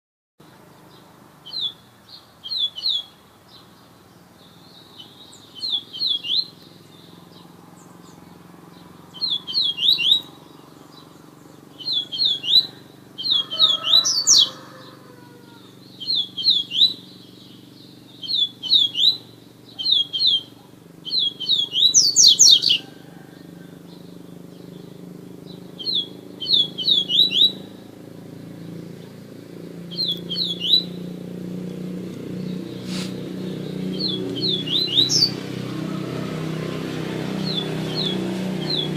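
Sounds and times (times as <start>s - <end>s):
songbird singing: 0.4s - 38.9s.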